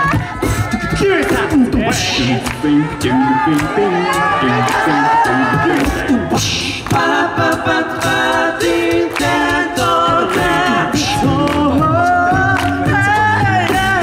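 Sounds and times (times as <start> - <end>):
a cappella group singing in harmony: 0.0 - 14.0.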